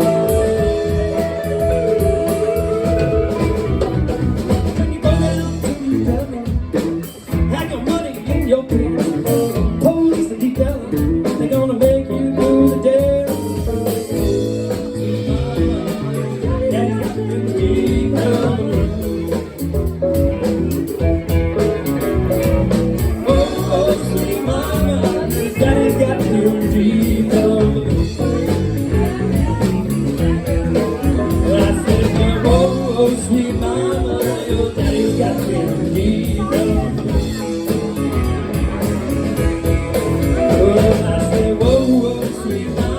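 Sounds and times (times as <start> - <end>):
electric guitar bending notes: 0.0 - 7.7, 10.8 - 42.9
blues-rock band playing: 0.0 - 42.9
steady drum beat: 0.0 - 42.9.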